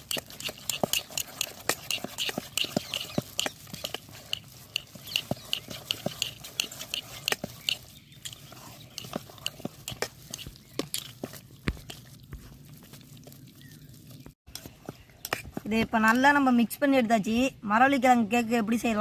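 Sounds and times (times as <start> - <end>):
batter being stirred: 0.0 - 16.3.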